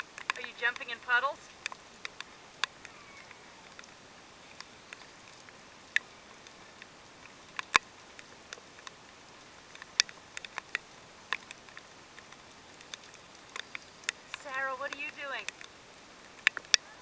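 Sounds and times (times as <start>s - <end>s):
faint rain hiss: 0.0s - 17.0s
raindrops pattering: 0.0s - 17.0s.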